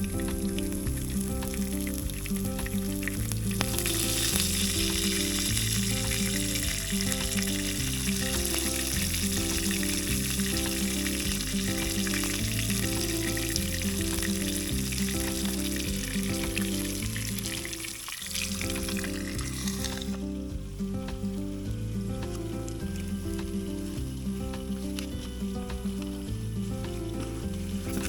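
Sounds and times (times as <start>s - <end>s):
background music with bass line: 0.0s - 28.0s
food sizzling in a pan: 0.0s - 28.0s.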